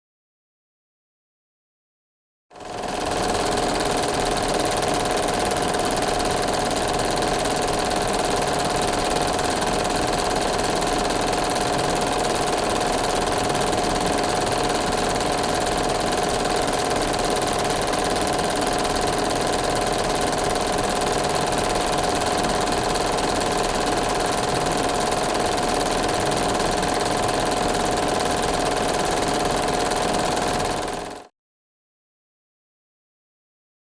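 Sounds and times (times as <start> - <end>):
film projector whirring: 2.6 - 31.3.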